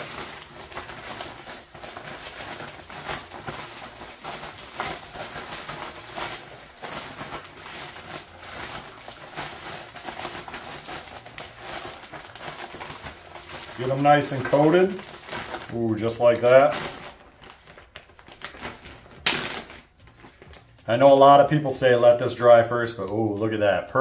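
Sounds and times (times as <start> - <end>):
plastic bag shaken and rustling: 0.0 - 24.0.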